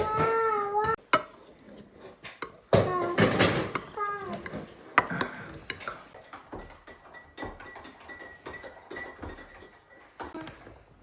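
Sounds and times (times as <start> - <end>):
dishes and cutlery clinking: 0.0 - 10.8.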